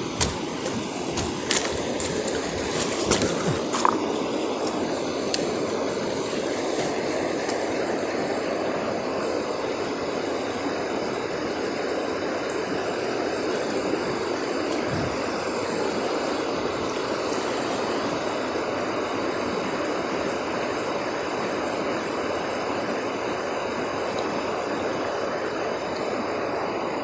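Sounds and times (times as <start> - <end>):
river current rushing: 0.0 - 27.0.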